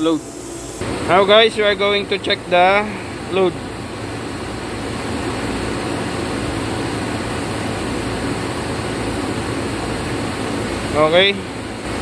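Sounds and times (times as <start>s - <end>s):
low constant hum: 0.0s - 12.0s
printing press whirring: 0.0s - 12.0s.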